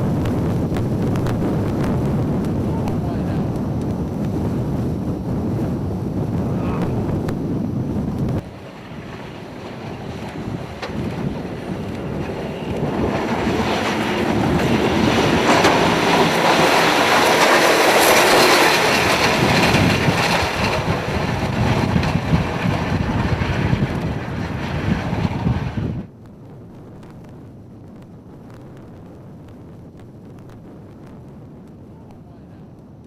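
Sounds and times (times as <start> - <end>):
blizzard wind gusting: 0.0 - 33.0.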